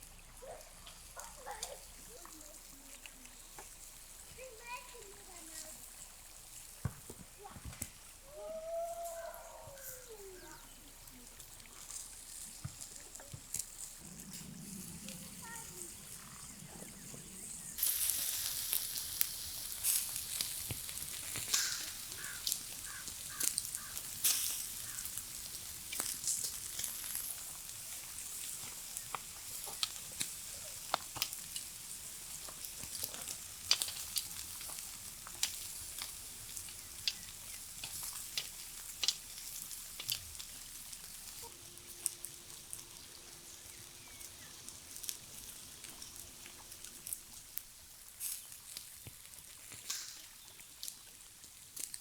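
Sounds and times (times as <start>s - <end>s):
fire crackling and popping: 0.0s - 52.0s
food sizzling over campfire: 0.0s - 52.0s.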